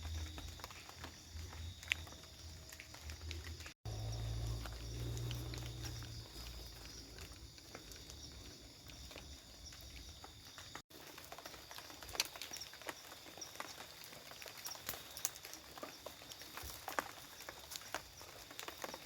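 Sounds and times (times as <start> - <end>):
insects pulsing trills: 0.0 - 19.0.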